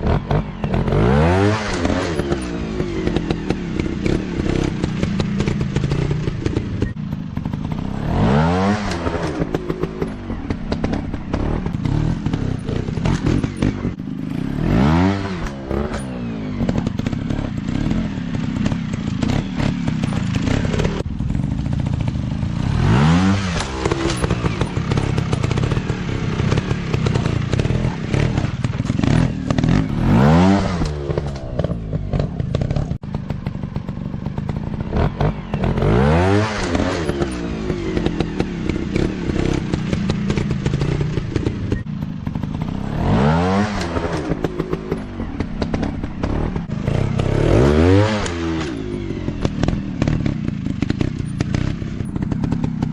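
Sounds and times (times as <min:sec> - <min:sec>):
dirt bike engines revving: 0:00.0 - 0:52.9.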